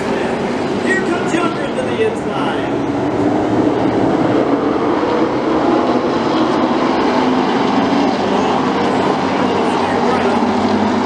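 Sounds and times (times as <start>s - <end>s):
race cars racing past: 0.0s - 11.0s.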